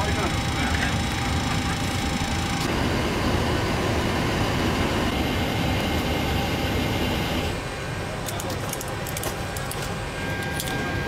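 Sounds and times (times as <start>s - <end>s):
airliner cockpit rumble and hiss: 0.0s - 11.0s.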